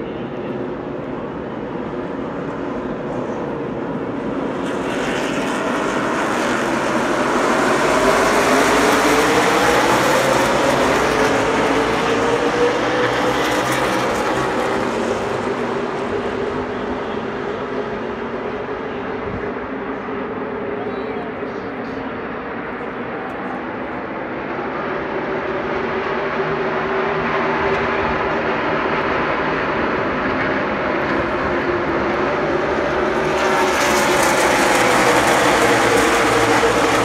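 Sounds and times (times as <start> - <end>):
race car engines roaring: 0.0 - 37.0.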